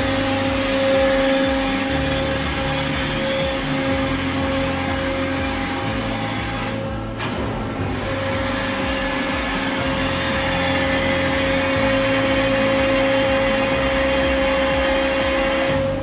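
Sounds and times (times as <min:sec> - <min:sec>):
pump machine hum with whine: 0:00.0 - 0:16.0.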